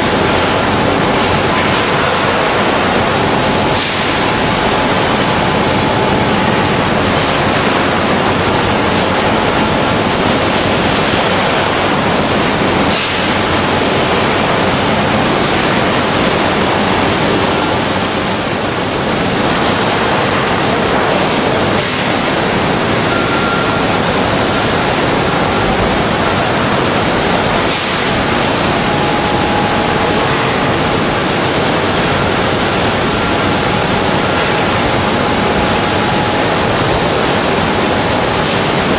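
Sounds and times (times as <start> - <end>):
industrial rushing roar: 0.0 - 38.9.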